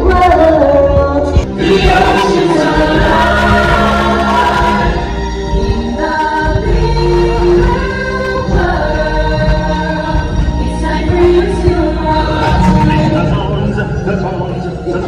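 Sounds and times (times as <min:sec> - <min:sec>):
chorus singing: 0:00.0 - 0:15.0
instrumental backing: 0:00.0 - 0:15.0.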